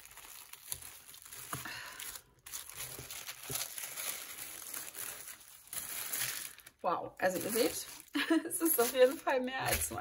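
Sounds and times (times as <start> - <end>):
tissue paper rustling and crinkling: 0.0 - 10.0.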